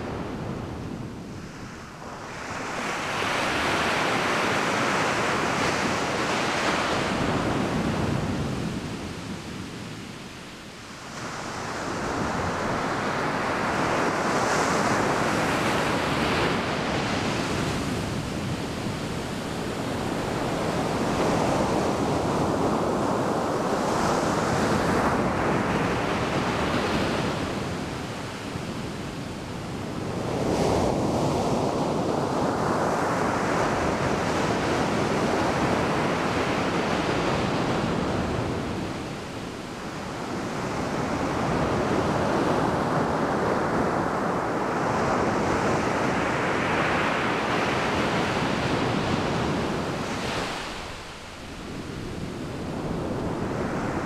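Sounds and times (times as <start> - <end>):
waves washing up beach: 0.0 - 9.8, 10.6 - 54.0.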